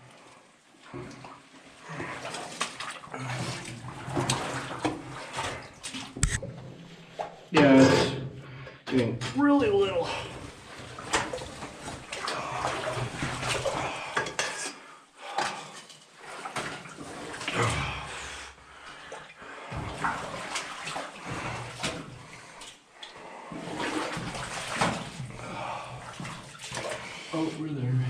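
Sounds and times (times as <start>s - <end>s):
water sloshing and splashing: 0.0s - 27.9s.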